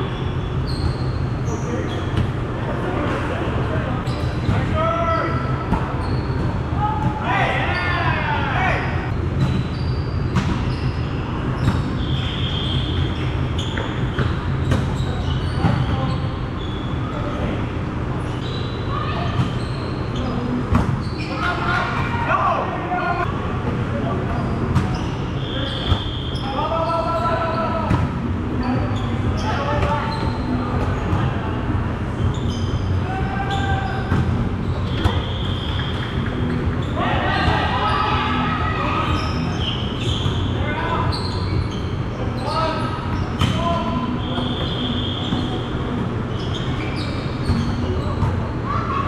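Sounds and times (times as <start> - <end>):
sneakers squeaking on court: 0.0 - 2.4, 4.0 - 8.1, 8.9 - 17.4, 18.1 - 22.1, 24.3 - 38.4, 39.0 - 48.7.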